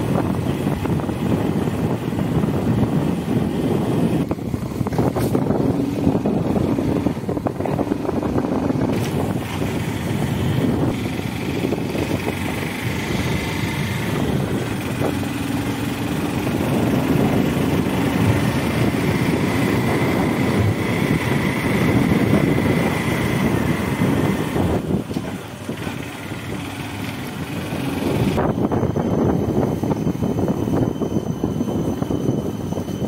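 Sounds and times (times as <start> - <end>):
motorcycle engine running: 0.0 - 32.1.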